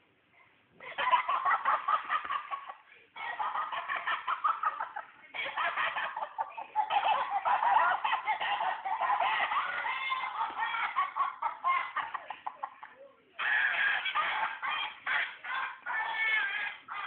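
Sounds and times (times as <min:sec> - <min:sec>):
toy dog recorded laughter: 0:00.8 - 0:17.0.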